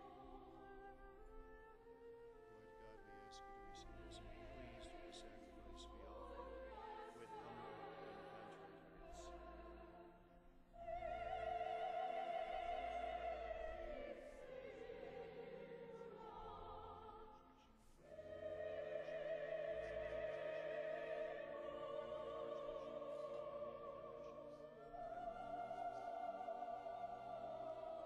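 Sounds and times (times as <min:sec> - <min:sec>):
low musical accompaniment: 0:00.0 - 0:28.0.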